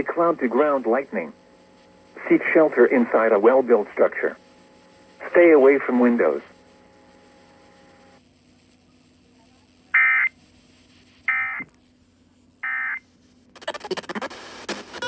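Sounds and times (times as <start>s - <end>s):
harsh buzzing digital tones: 0.0s - 9.2s, 9.8s - 11.7s, 12.5s - 14.2s.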